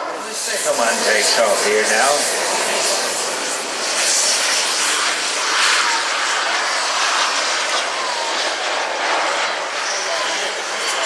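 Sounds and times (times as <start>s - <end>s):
model aircraft engine: 0.0s - 11.0s.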